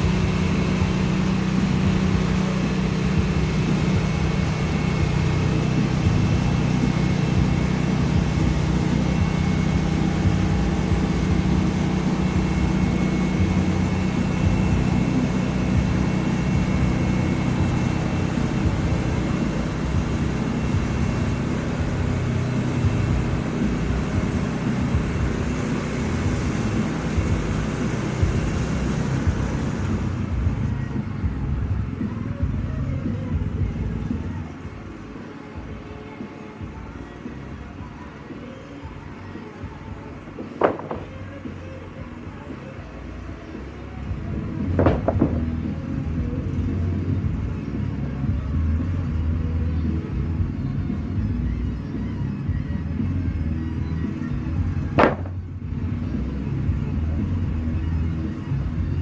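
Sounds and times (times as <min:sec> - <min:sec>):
sawmill engine humming: 0:00.0 - 0:36.3, 0:39.4 - 0:59.0
high-pitched whine: 0:00.0 - 0:55.7.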